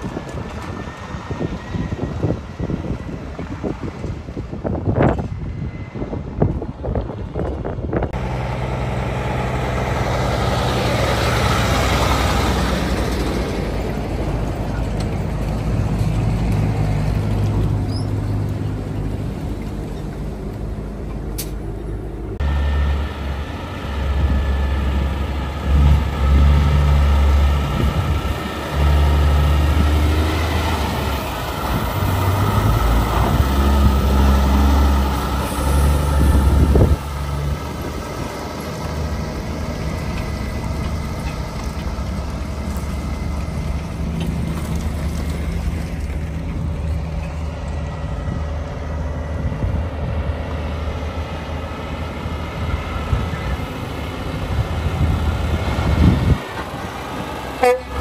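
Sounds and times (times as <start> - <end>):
diesel truck engines droning: 0.0 - 58.0
truck engine surging: 7.9 - 58.0.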